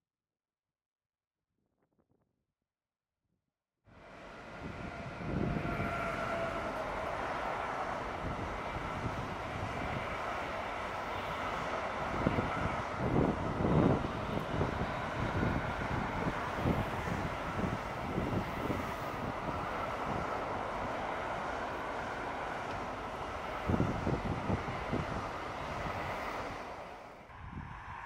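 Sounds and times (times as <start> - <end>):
electric locomotive whine: 3.9 - 28.0
freight wagons rumbling past: 4.0 - 27.3.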